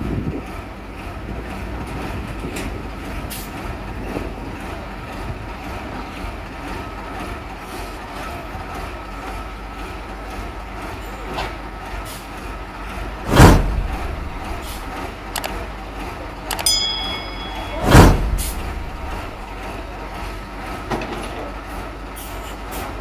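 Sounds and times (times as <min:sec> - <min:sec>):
diesel machinery rumbling: 0:00.0 - 0:23.0.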